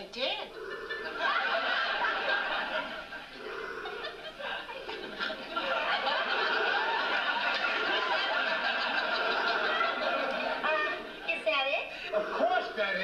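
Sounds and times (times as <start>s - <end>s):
studio audience laughing: 0.8s - 11.3s.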